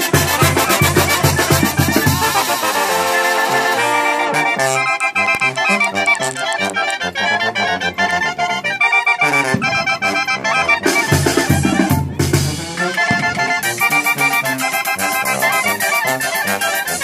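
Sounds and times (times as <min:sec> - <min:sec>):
accordion music: 0:00.0 - 0:17.0.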